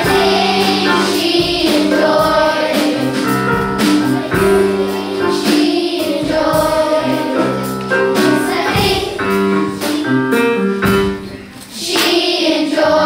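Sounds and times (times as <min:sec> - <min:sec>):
children's choir singing: 0:00.0 - 0:10.1, 0:11.7 - 0:13.0.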